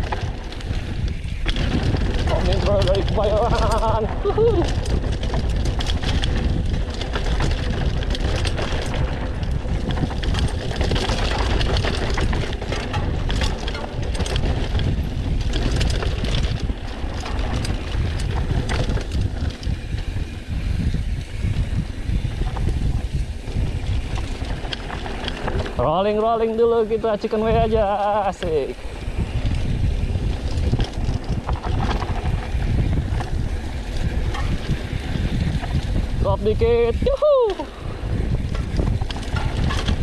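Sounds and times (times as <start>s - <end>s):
bike clicks and rattles: 0.0s - 40.0s
bike tyre noise: 0.0s - 40.0s
wind rumble on microphone: 0.0s - 40.0s.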